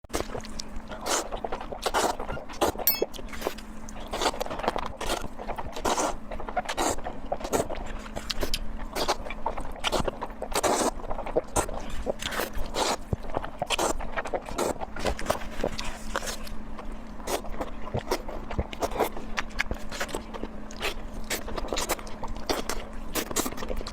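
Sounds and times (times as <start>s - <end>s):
close chewing and mouth clicks: 0.1s - 23.9s.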